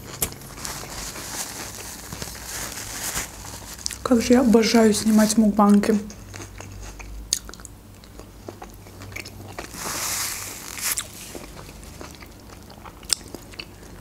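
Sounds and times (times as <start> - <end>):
chewing crunchy food: 0.0 - 4.1, 5.6 - 14.0.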